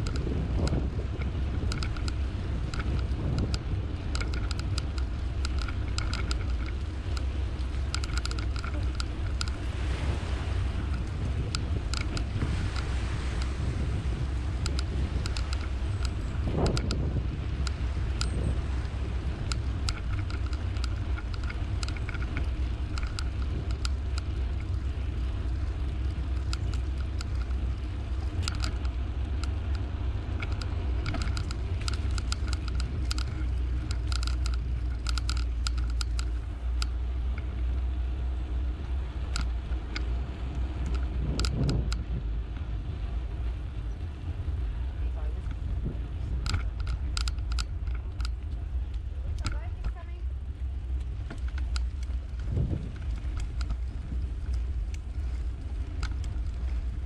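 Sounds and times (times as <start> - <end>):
bicycle rattling clicks: 0.0 - 9.8, 10.8 - 44.6, 45.4 - 57.0
wind buffeting microphone: 0.0 - 57.0.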